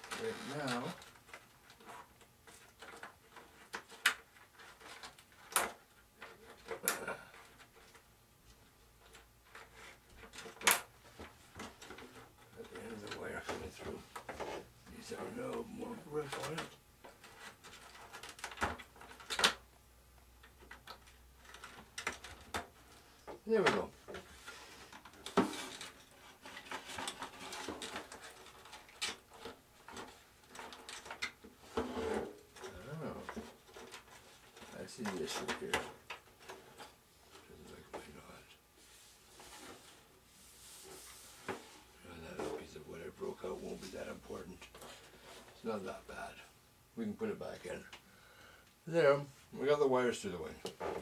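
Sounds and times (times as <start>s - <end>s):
light scraping and rustling: 0.0s - 8.0s, 9.0s - 19.4s, 20.6s - 48.0s.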